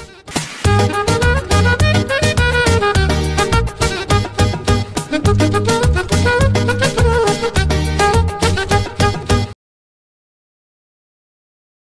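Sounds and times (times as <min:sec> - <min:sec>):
instrumental music with beat: 0:00.0 - 0:09.6.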